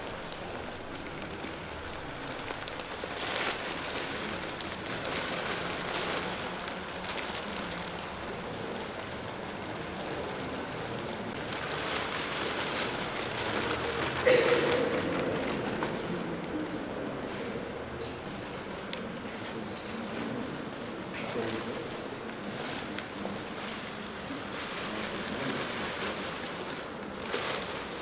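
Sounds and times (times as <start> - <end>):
granular material pouring on concrete: 0.0 - 16.5, 18.2 - 28.0.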